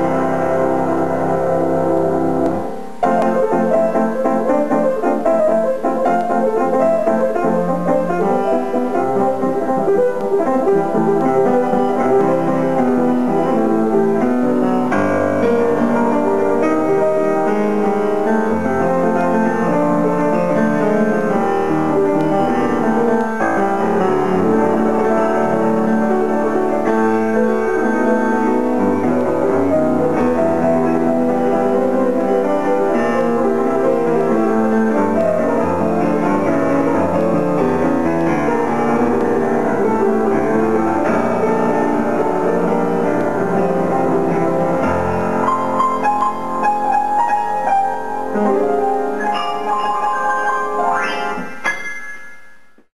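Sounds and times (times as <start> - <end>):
piano playing run of notes: 0.0 - 52.9.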